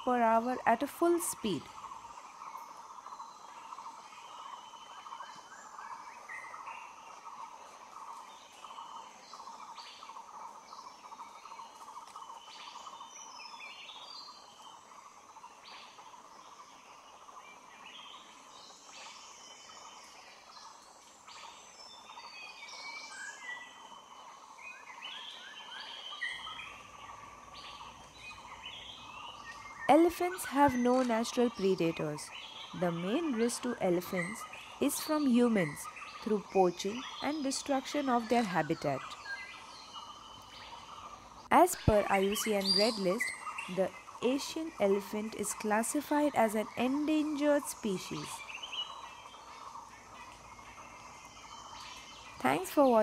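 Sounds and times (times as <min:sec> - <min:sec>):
bird calls and chirps: 0:00.0 - 0:53.0.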